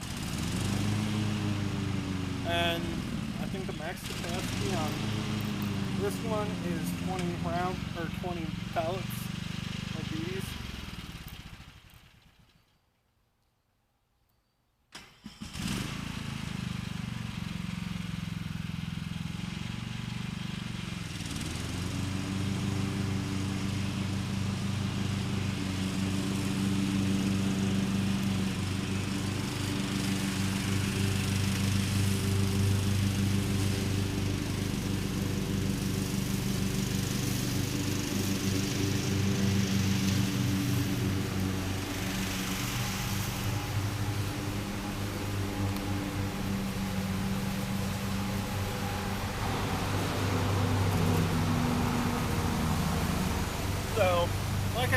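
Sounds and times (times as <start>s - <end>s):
engine running: 0.0s - 12.7s, 15.0s - 54.9s.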